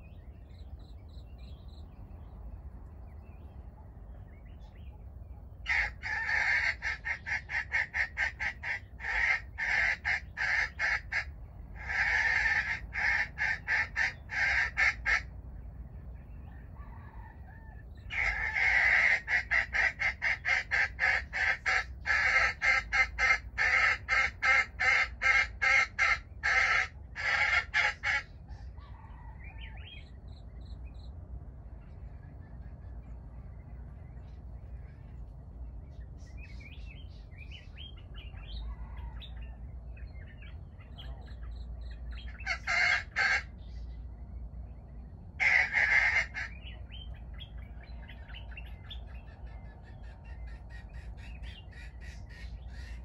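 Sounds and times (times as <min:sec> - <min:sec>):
wild chicken clucking: 0:03.0 - 0:53.0.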